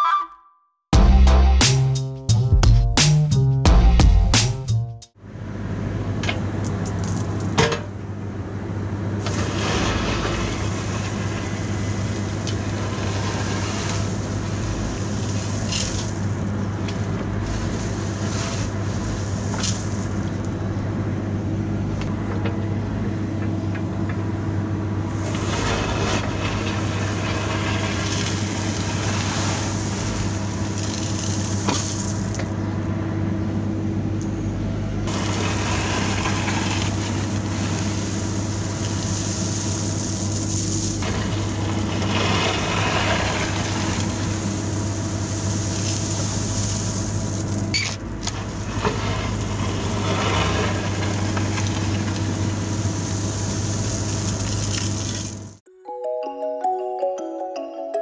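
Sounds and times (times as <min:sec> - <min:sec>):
diesel engine running: 0:01.0 - 0:55.6.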